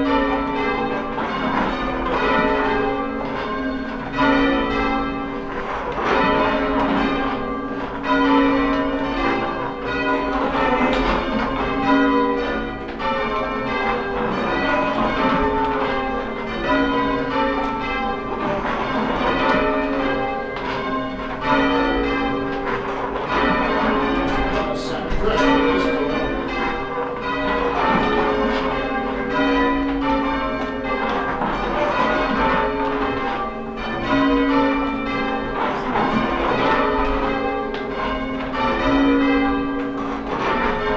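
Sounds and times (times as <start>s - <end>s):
church tower bells ringing: 0.0s - 40.9s.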